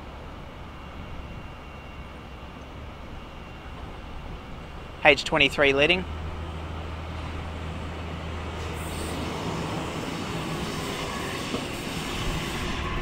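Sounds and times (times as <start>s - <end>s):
electric train arriving: 0.0s - 13.0s.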